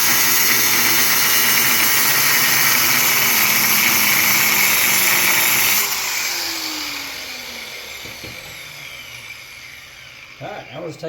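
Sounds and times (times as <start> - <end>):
power tool running and winding down: 0.0 - 11.0.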